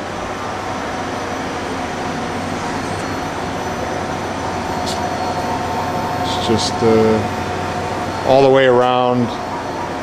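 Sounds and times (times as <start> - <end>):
chip conveyor running: 0.0 - 10.0
constant machine hum: 0.0 - 10.0.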